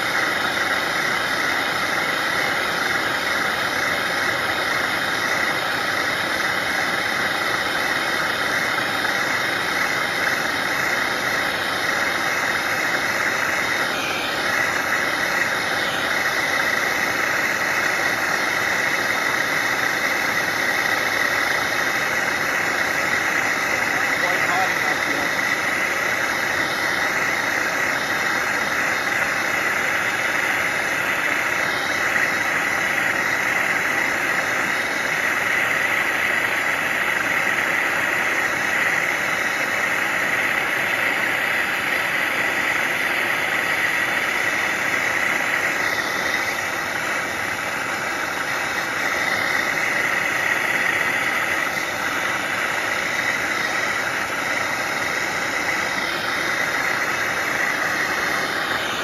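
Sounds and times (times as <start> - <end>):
gas torch hissing: 0.0 - 59.0.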